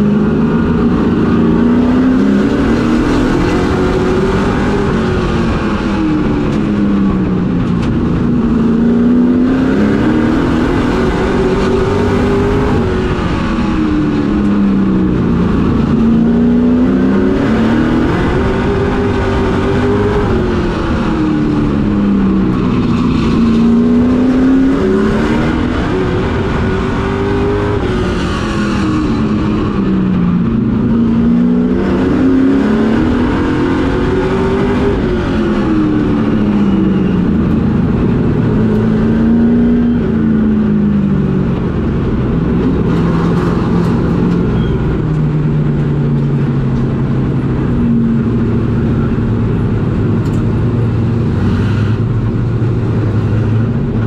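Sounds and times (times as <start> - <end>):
road and wind noise: 0.0 - 54.0
truck engine revving: 0.0 - 54.0.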